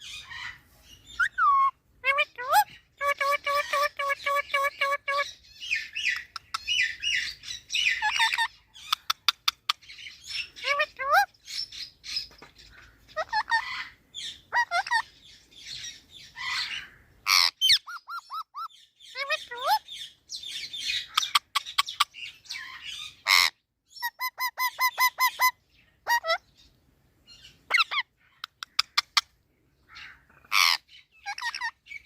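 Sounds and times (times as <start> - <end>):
parrot calling and squawking: 0.0 - 12.0, 13.1 - 26.5, 27.4 - 32.0.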